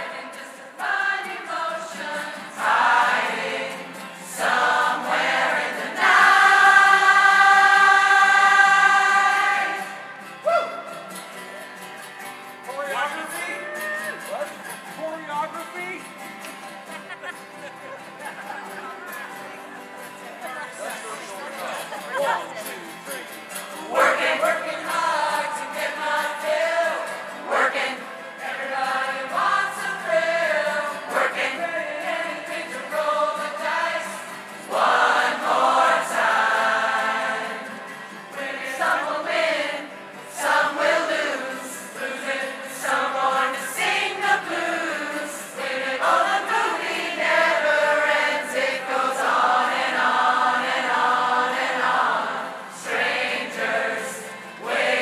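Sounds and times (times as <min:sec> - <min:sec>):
crowd choir singing: 0:00.0 - 0:12.4, 0:16.6 - 0:55.0.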